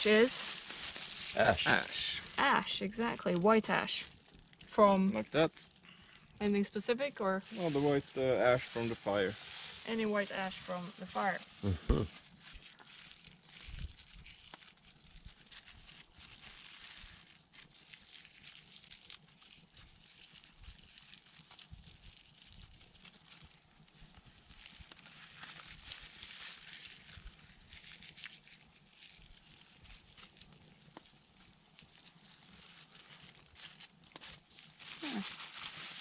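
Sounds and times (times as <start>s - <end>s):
plastic bag rustling and crinkling: 0.0s - 36.0s.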